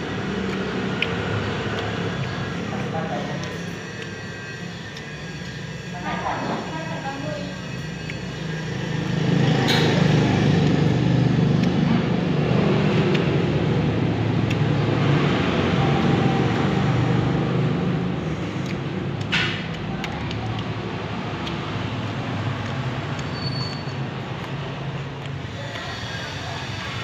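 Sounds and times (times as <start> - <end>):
low rumble of road traffic: 0.0 - 27.0.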